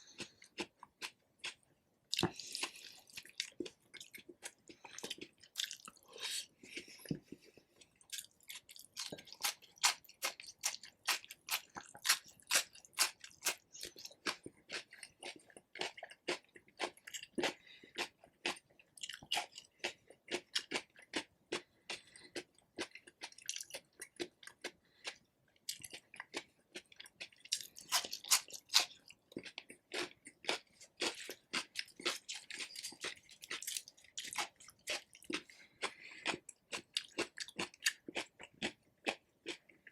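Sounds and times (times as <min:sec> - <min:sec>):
person chewing and biting chicken: 0:00.0 - 0:39.9.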